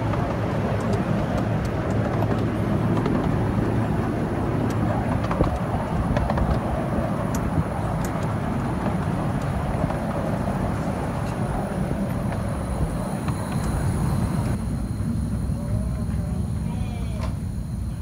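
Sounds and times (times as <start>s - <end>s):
miniature train rumbling: 0.0s - 18.0s.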